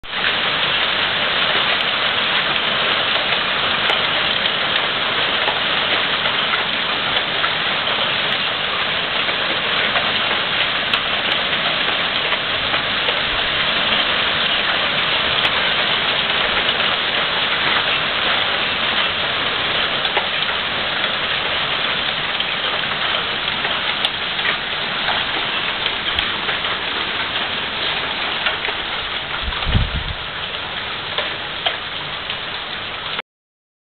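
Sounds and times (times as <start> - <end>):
hail on a tile roof: 0.1 - 33.2.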